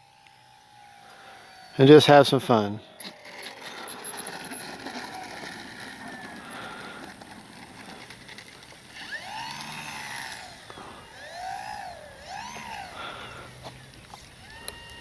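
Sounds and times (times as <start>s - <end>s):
model plane electric motor whine: 0.0s - 15.0s.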